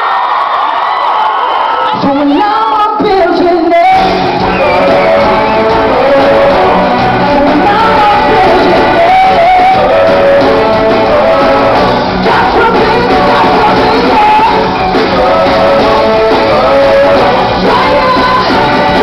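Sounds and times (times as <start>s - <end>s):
live pop-rock band playing: 1.9s - 19.0s
man singing: 2.0s - 19.0s.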